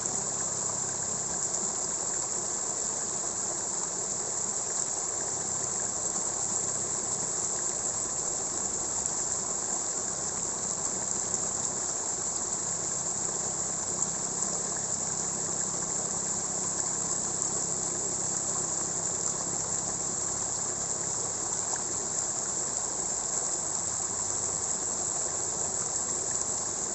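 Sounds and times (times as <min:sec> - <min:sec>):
insects chorus: 0:00.0 - 0:26.9
water rushing: 0:00.0 - 0:26.9.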